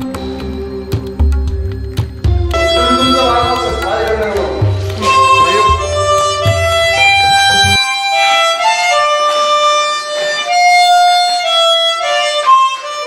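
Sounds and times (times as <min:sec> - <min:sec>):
harmonica melody: 0:02.1 - 0:13.0.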